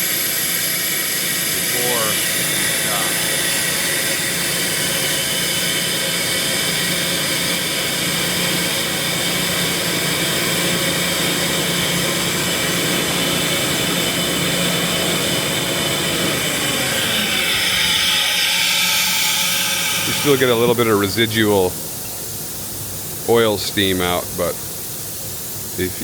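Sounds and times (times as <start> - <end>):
air compressor humming: 0.0 - 26.0
air hissing: 0.0 - 26.0.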